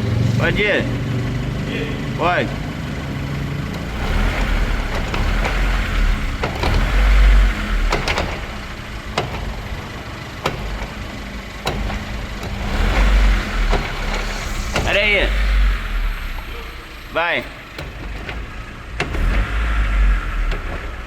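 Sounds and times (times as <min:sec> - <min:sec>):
car engine running low: 0:00.0 - 0:21.0.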